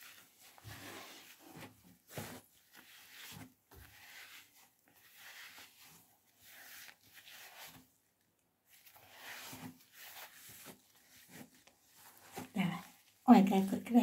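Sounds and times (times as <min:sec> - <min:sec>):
glove swishing over wet fur: 0:00.0 - 0:14.0.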